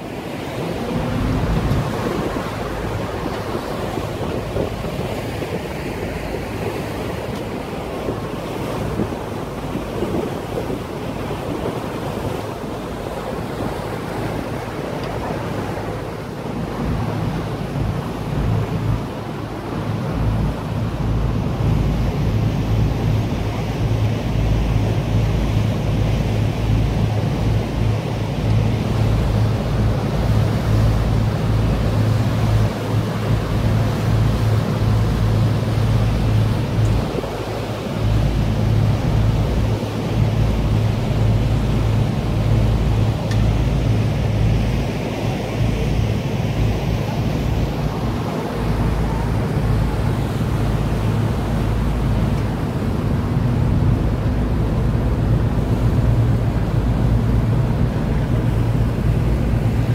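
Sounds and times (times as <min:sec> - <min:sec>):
boat engine droning: 0:00.0 - 0:59.9
wind buffeting microphone: 0:00.0 - 0:59.9.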